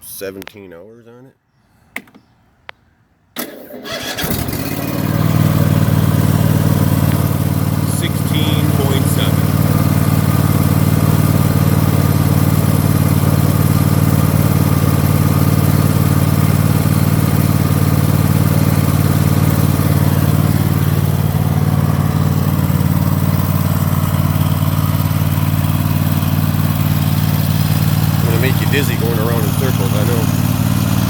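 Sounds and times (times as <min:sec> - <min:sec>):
riding lawn mower engine running: 0:03.4 - 0:31.0.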